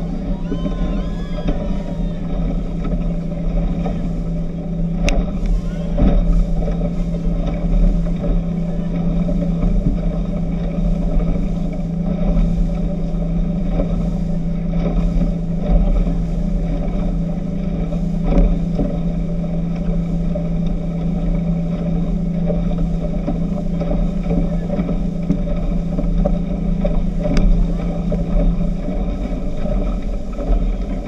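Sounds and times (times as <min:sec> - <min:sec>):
speedboat engine droning: 0:00.0 - 0:31.0.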